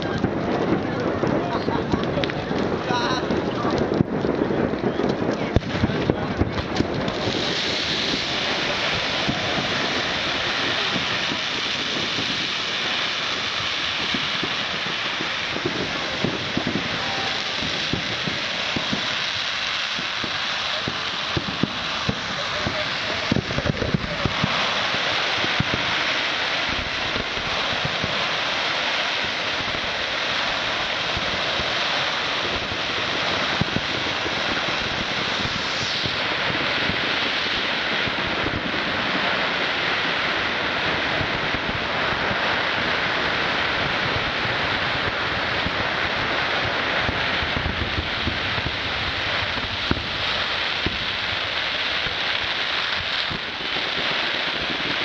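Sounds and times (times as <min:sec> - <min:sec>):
fireworks hissing crackle: 0:00.0 - 0:55.0.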